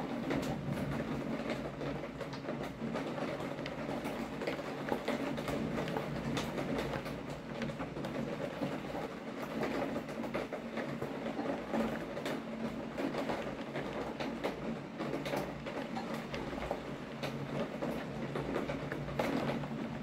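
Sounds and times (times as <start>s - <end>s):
heavy rain falling: 0.0s - 20.0s
raindrops pattering close by: 0.0s - 20.0s.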